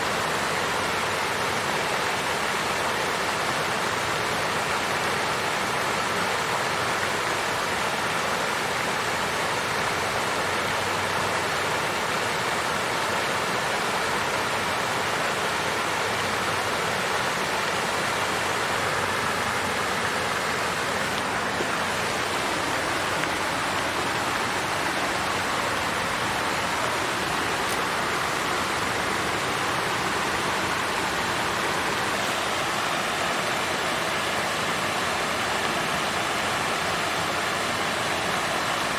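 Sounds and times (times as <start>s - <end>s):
fountain water splashing: 0.0s - 38.9s.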